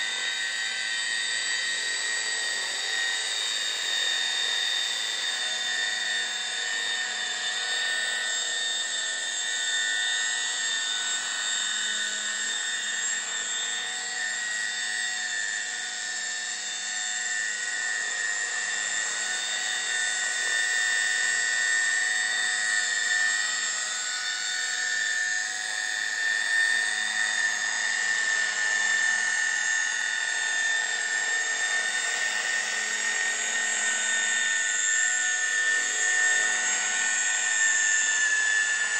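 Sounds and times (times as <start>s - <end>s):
rc helicopter motor whine: 0.0s - 38.9s.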